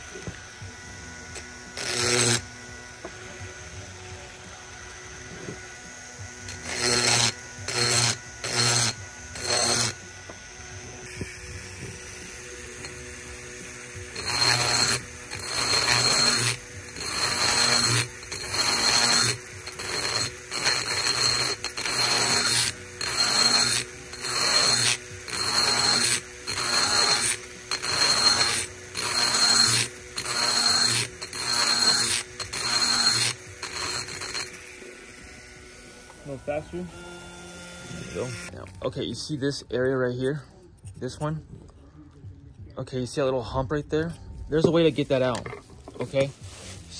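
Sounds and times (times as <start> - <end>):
rotary tool grinding metal: 0.0 - 42.2.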